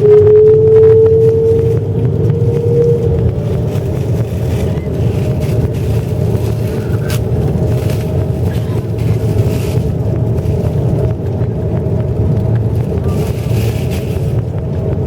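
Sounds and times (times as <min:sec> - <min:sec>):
cabin engine and airflow rumble: 0:00.0 - 0:15.0
steady whine: 0:00.0 - 0:15.0.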